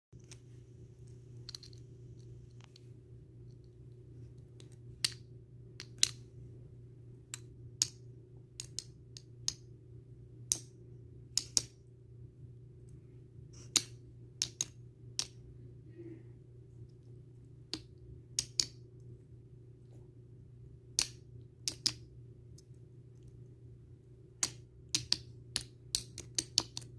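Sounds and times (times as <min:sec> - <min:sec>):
steady low hum: 0:00.2 - 0:26.9.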